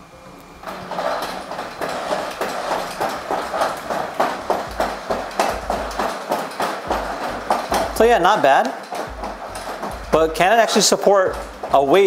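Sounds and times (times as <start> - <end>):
robot feet knocking on floor: 0.7 - 12.0.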